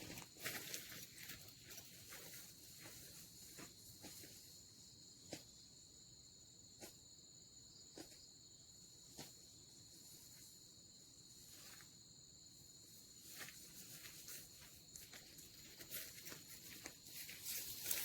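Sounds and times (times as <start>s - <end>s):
faint insect drone: 0.0s - 18.0s.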